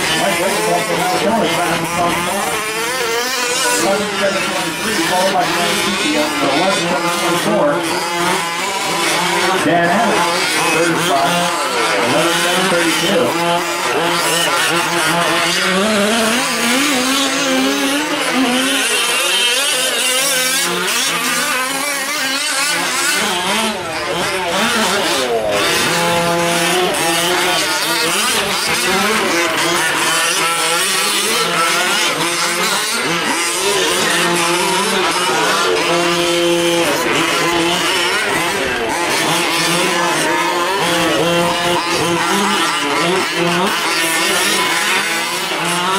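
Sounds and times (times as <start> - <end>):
rc truck engines revving: 0.0 - 45.9.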